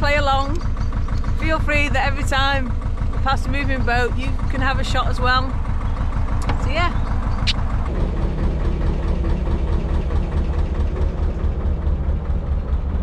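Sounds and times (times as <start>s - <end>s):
diesel boat engine running: 0.0s - 13.0s.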